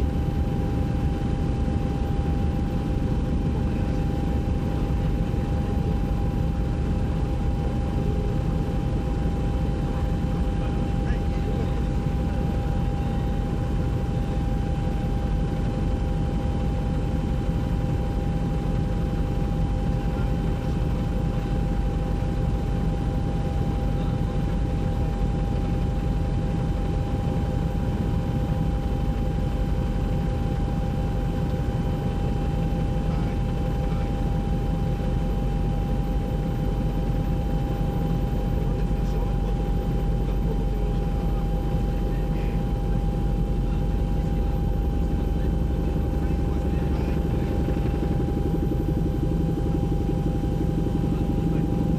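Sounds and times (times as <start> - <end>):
constant whine: 0.0 - 51.9
helicopter engine and rotor drone: 0.0 - 51.9.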